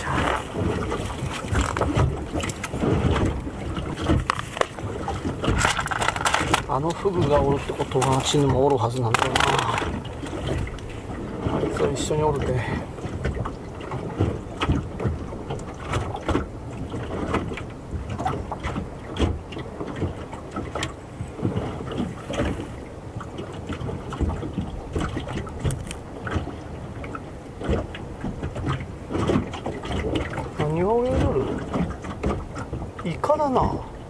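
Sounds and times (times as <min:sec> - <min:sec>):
waves lapping against boat hull: 0:00.0 - 0:34.0.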